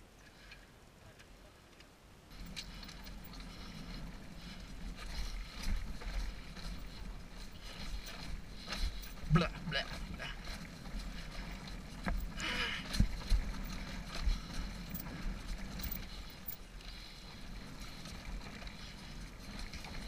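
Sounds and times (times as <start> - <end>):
dirt bike engine humming: 2.2 - 20.0.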